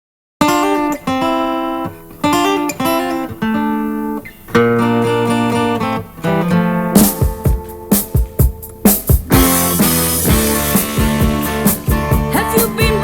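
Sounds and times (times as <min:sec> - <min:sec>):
acoustic guitar chords: 0:00.4 - 0:13.0.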